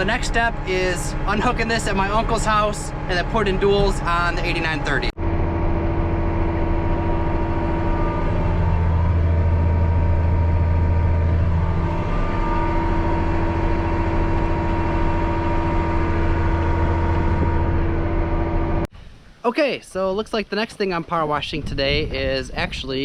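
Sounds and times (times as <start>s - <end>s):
tractor diesel engine droning: 0.0s - 18.9s.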